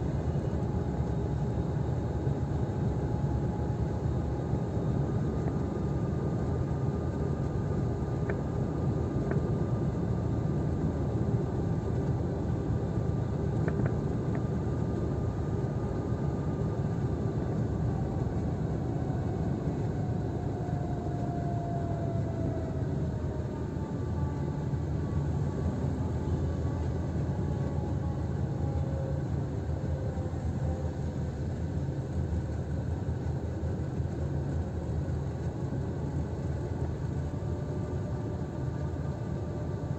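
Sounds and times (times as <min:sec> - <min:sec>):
car driving heard from cabin: 0:00.0 - 0:39.9
faint engine whine: 0:00.0 - 0:39.9.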